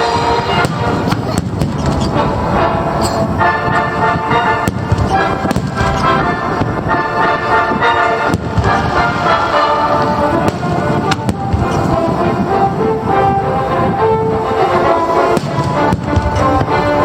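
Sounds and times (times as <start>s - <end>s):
fireworks rumbling: 0.0s - 17.0s
fireworks sharp bangs: 0.0s - 17.0s
music playing: 0.0s - 17.0s.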